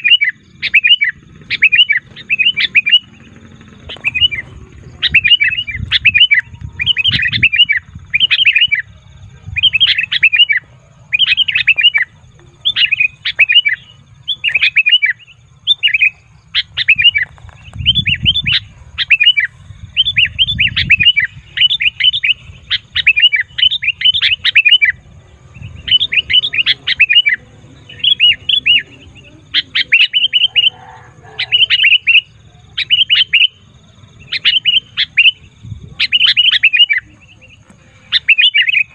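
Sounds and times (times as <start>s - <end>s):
bulbul chattering calls: 0.0s - 38.9s.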